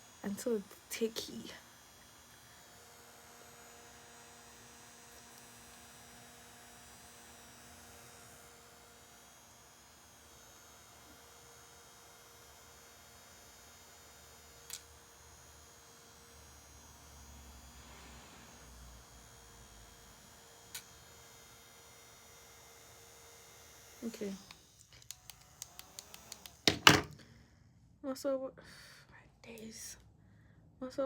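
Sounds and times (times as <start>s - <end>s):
small electric fan hum: 0.0s - 27.4s.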